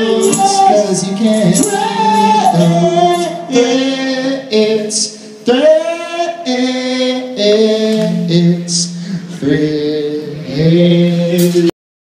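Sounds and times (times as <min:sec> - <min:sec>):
men singing in harmony: 0:00.0 - 0:11.7.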